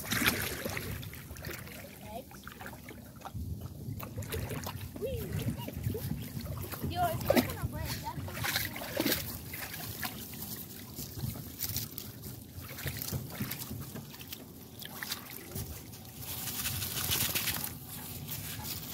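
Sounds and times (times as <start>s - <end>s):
shallow stream trickling: 0.0s - 18.9s.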